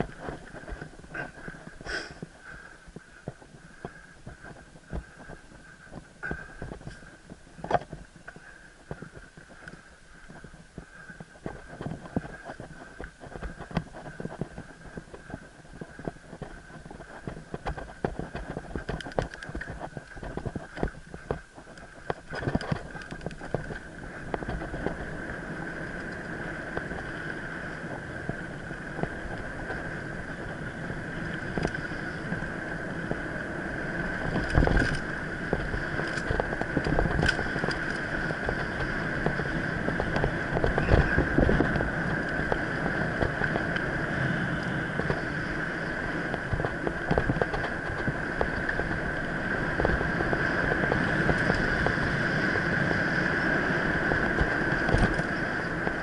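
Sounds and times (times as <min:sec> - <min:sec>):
bike rattling over roots: 0:00.0 - 0:56.0
tyre and wind rush: 0:00.0 - 0:56.0.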